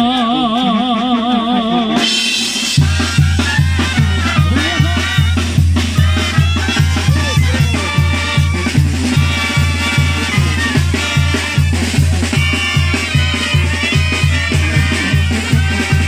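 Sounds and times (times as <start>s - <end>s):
low drum beat: 0.0s - 16.0s
brass band trumpets and clarinets: 2.0s - 16.0s.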